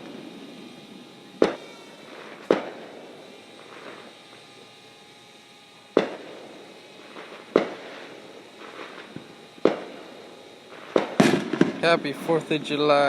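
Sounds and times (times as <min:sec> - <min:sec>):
fireworks bangs with echo: 0:00.0 - 0:04.3, 0:05.9 - 0:13.0.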